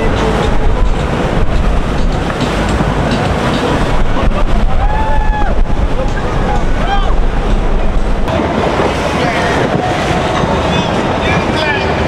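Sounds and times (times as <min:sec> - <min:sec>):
motorboat engine rumble: 0:00.0 - 0:12.0
water rushing past hull: 0:00.0 - 0:12.0
wind buffeting microphone: 0:00.0 - 0:12.0.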